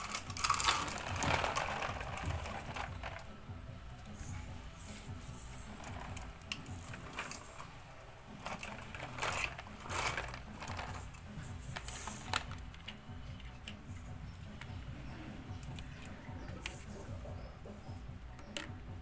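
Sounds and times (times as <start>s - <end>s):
marbles and toy balls clicking: 0.0s - 3.3s, 3.9s - 7.8s, 8.4s - 14.9s, 15.6s - 17.4s.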